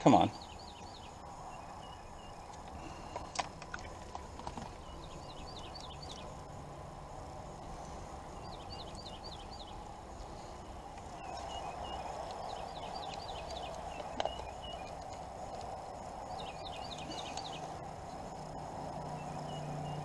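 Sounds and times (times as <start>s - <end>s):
bird chirping: 0.0s - 6.5s, 7.7s - 20.0s.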